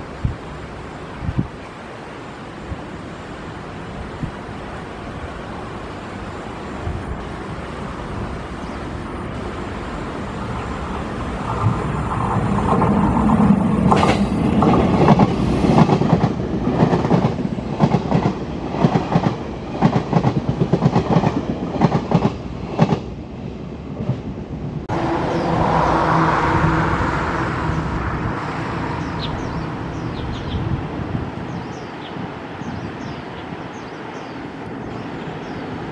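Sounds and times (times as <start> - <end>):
train running with low hum: 0.0 - 35.9.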